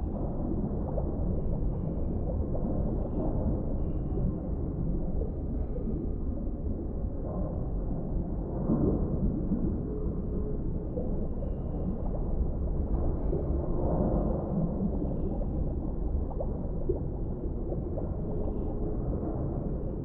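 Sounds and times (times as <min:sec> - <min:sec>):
faint gurgling: 0:00.0 - 0:20.0
low underwater rumble: 0:00.0 - 0:20.0.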